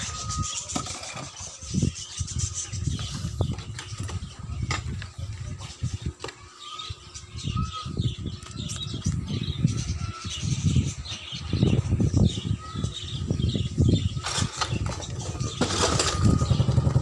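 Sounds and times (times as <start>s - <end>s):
birds chirping: 0.0s - 17.0s
motorcycle engine rumbling: 0.0s - 17.0s.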